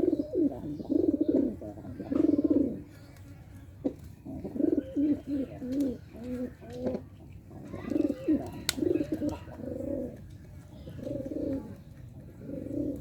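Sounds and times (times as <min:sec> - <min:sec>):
pigeons cooing: 0:00.0 - 0:03.0, 0:03.8 - 0:13.0.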